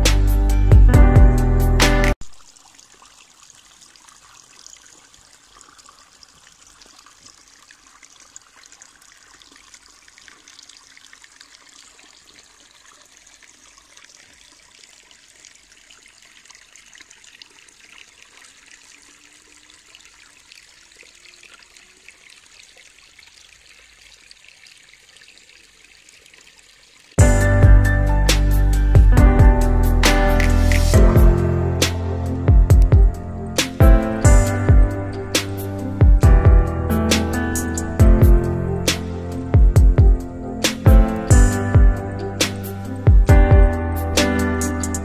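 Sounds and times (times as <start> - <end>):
water trickling in a channel: 2.2 - 28.2, 30.4 - 45.0.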